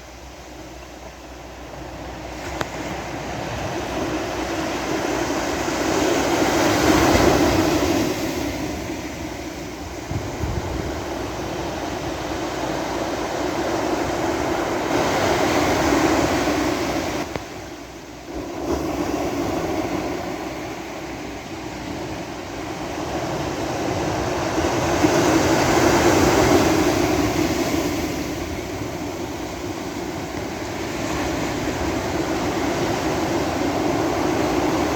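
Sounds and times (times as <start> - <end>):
sea surf washing onto beach: 0.0 - 34.9.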